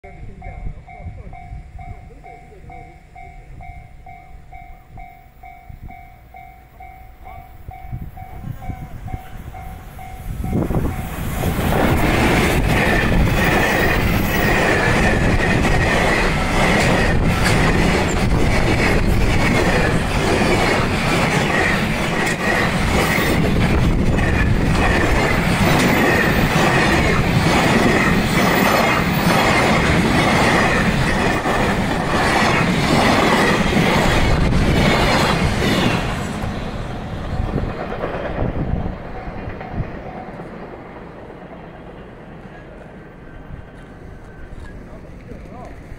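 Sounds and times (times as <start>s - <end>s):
train rumble and wheel clatter: 0.0s - 45.9s.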